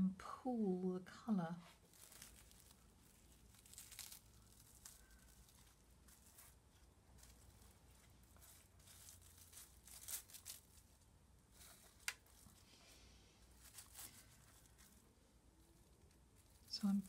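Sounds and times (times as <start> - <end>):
cling film crinkling: 1.6 - 17.0.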